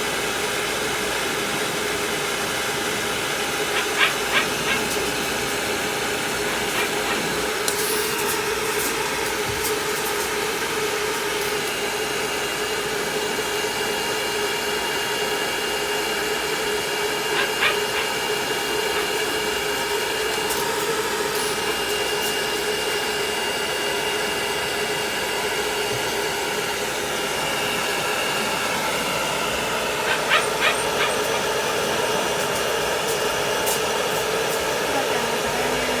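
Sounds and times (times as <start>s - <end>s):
hair dryer blowing: 0.0s - 36.0s.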